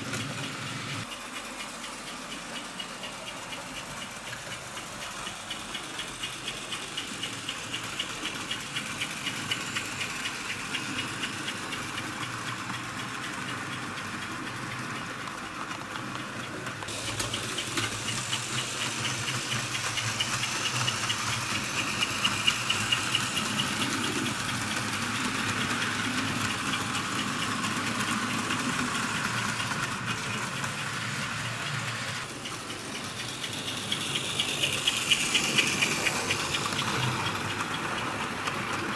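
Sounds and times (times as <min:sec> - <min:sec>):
model train running on track: 0:00.0 - 0:38.9.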